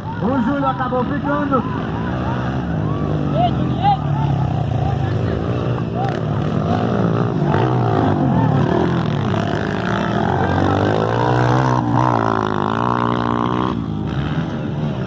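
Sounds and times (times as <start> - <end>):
motocross bike engines running: 0.0 - 15.0
motorbike engine revving: 2.0 - 15.0.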